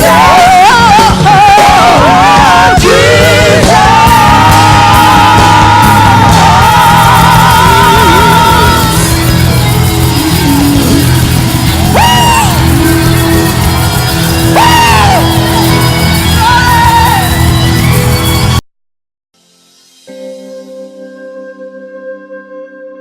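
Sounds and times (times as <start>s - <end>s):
loud worship music: 0.0s - 18.6s.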